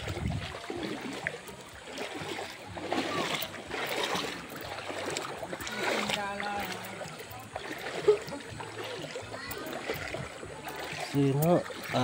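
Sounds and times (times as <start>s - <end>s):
water washing over sand: 0.0s - 12.0s.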